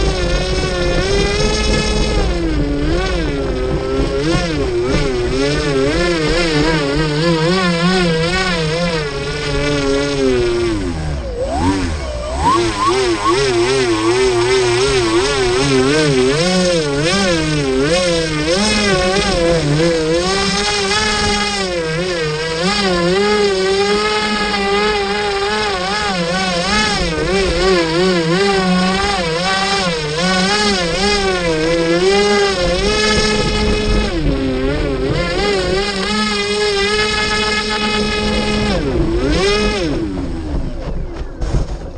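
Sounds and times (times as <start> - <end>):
electric motor and propeller whine: 0.0 - 41.9.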